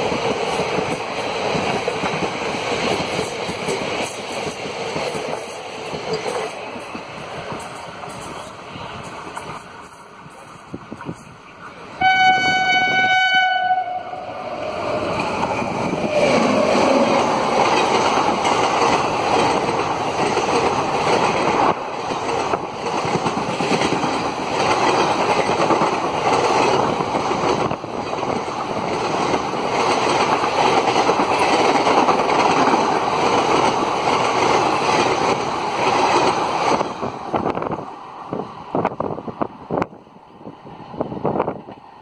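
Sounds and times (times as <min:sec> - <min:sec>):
train rushing past: 0:00.0 - 0:42.0.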